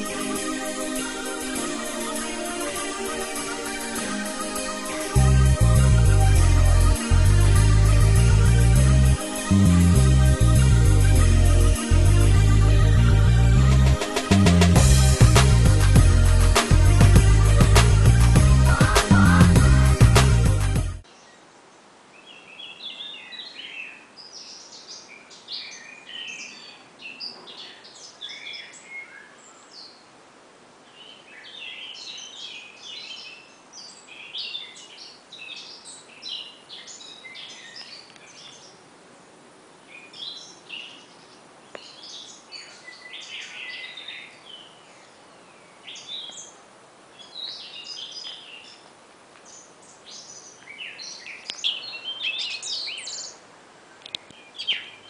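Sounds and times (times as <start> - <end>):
songbirds chirping and singing: 0.0 - 21.4, 22.2 - 30.0, 30.9 - 38.8, 39.9 - 46.6, 47.2 - 53.4, 54.0 - 55.0.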